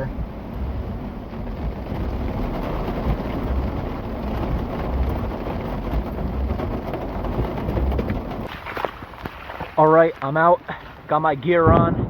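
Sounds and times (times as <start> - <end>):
heavy rain falling: 0.0 - 12.0
low rumbling: 0.0 - 12.0.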